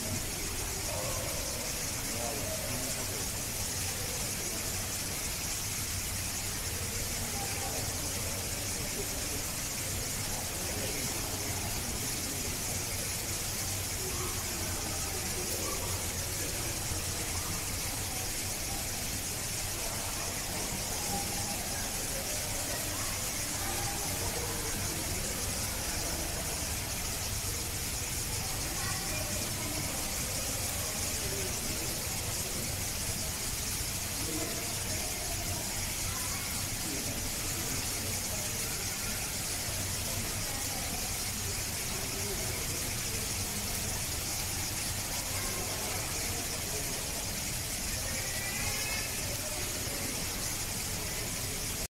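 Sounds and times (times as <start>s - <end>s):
high-pitched hiss: 0.0s - 51.9s
murmur of distant voices: 0.0s - 51.9s.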